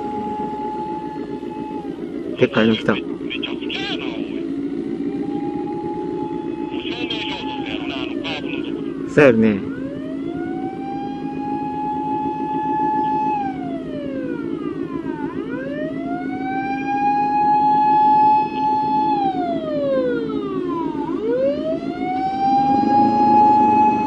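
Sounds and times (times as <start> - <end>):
emergency siren wailing: 0.0 - 24.0.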